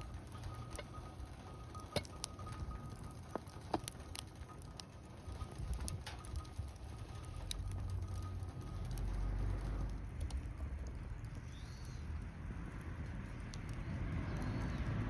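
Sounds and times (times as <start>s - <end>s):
low rumble: 0.0s - 15.0s
wood fire crackling and popping: 0.0s - 15.0s.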